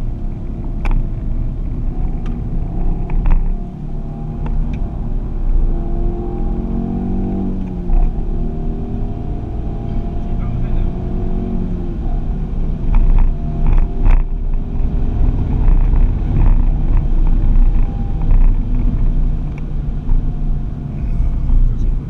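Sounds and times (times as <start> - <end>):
car engine driven hard: 0.0 - 22.0.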